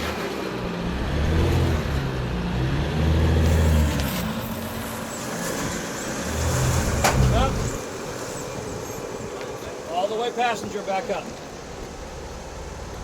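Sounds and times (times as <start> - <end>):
engine working under load: 0.0 - 13.0.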